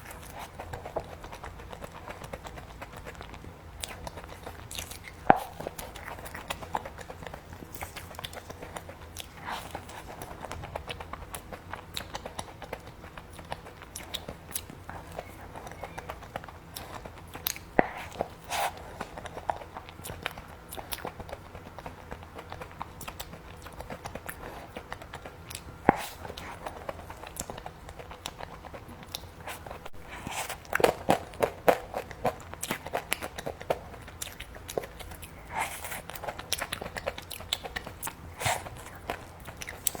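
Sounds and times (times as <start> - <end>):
chewing and mouth sounds: 0.0 - 40.0
crunchy bites: 0.0 - 40.0.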